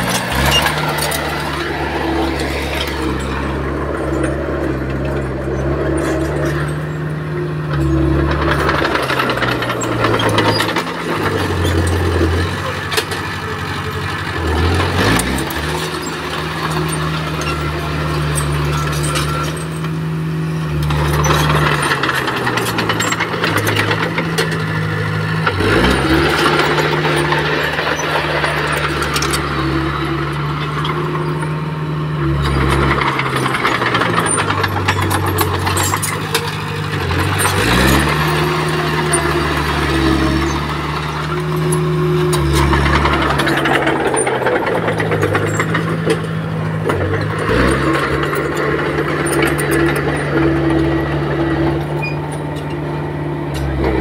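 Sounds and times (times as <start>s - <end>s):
bulldozer diesel engine: 0.0s - 54.0s
tracks clanking and rattling: 0.0s - 54.0s.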